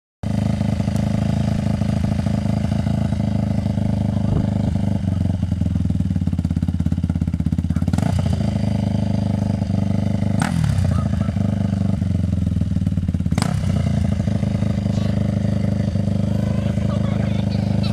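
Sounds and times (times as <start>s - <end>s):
motorcycle engine idling: 0.3s - 17.9s.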